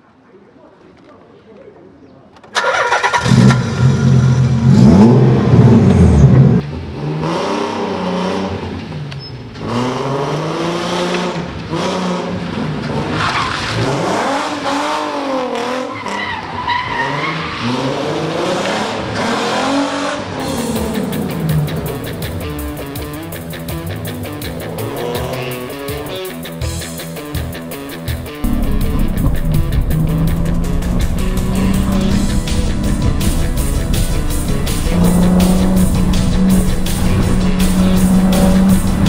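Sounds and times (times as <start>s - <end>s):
sports car engine revving: 3.2s - 16.1s, 17.6s - 26.5s, 28.4s - 39.0s.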